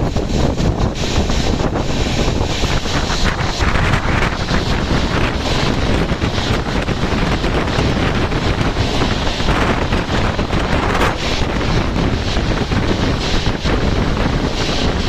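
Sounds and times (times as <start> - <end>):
train rumbling: 0.0 - 15.0
wind buffeting microphone: 0.0 - 15.0.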